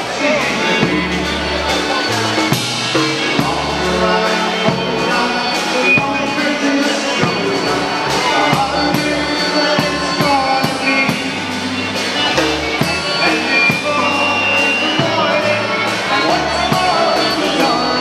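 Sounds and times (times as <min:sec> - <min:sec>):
drum kit with cymbals: 0:00.0 - 0:18.0
guitar: 0:00.0 - 0:18.0
polka band playing: 0:00.0 - 0:18.0.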